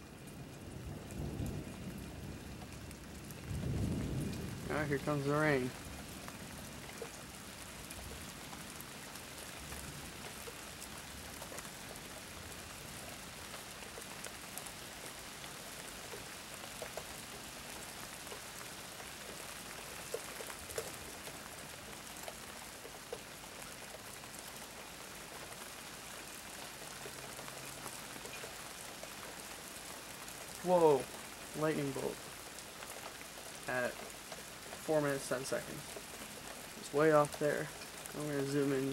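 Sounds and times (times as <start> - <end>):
heavy rain falling: 0.0 - 38.9
raindrops ticking: 0.0 - 38.9.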